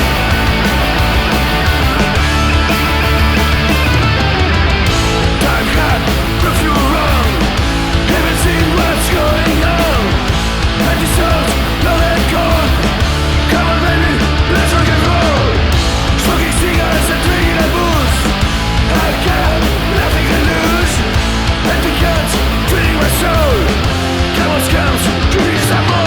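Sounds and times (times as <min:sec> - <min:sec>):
electric guitar: 0:00.0 - 0:26.0
punk rock band playing: 0:00.0 - 0:26.0.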